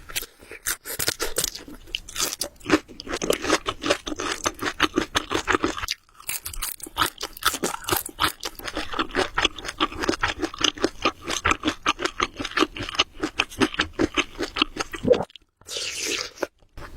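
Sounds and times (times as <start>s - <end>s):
person chewing noodles: 0.0s - 16.9s.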